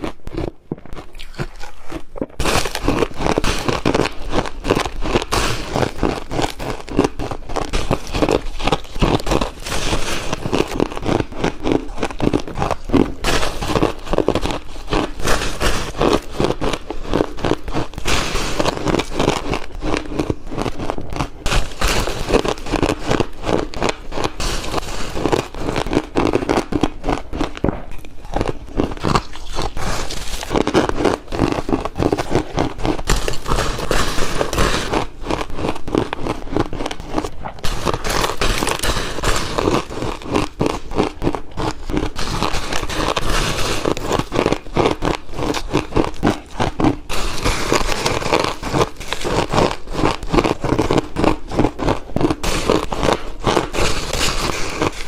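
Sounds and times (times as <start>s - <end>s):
crunchy ice chewing: 0.0s - 55.0s.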